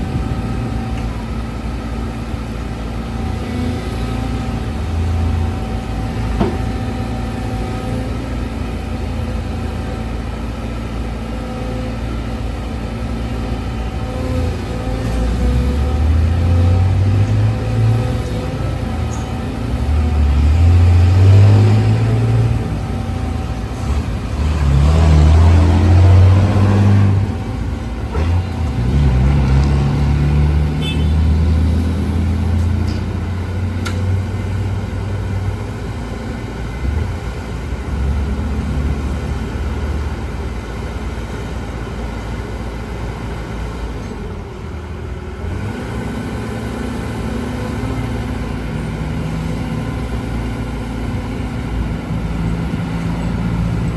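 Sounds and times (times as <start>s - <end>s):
excavator diesel engine working: 0.0s - 53.9s.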